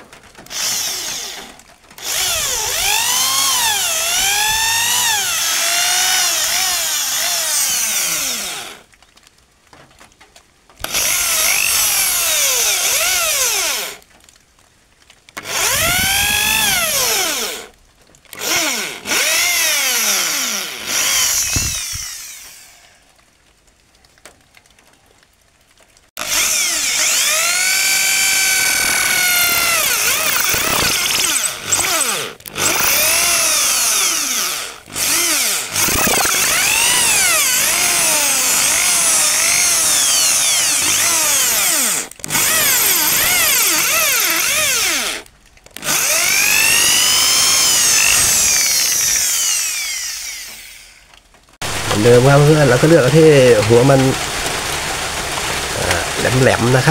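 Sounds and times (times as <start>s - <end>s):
electric drill boring into wood: 0.4s - 8.9s, 10.8s - 14.1s, 15.4s - 23.1s, 26.2s - 56.9s.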